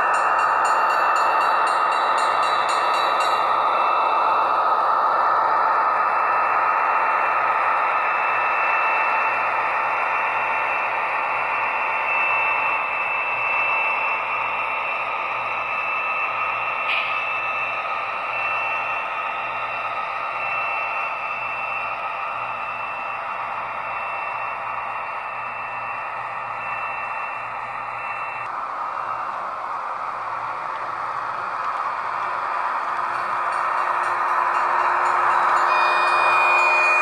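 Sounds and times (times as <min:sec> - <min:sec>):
model train wheels whirring: 0:00.0 - 0:37.0
thin high whine: 0:00.0 - 0:37.0.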